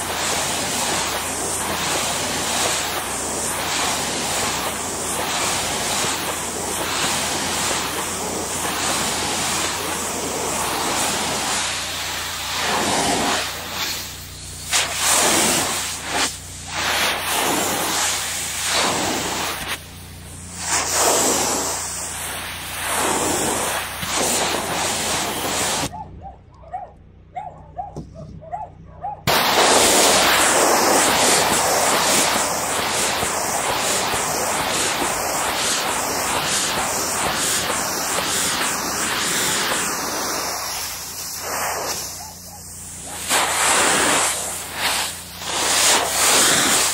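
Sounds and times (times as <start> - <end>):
water spray hissing on glass: 0.0 - 25.9, 29.3 - 46.9.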